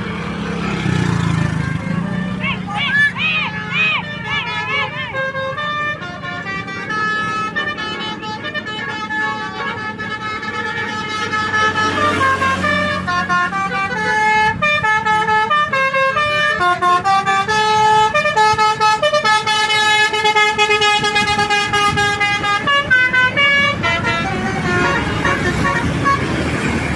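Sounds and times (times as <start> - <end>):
bus engines rumbling: 0.0 - 26.9
melodic bus air horns: 0.0 - 26.9.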